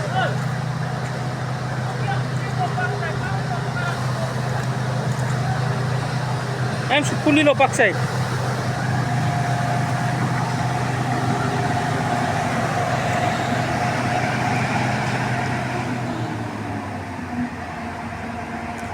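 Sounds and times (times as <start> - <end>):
thin steady whine: 0.0 - 18.6
engine running with low hum: 0.0 - 18.9.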